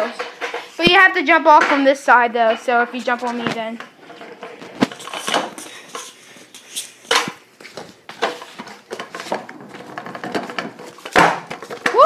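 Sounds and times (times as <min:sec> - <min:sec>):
scooter rolling on concrete: 0:00.0 - 0:12.0.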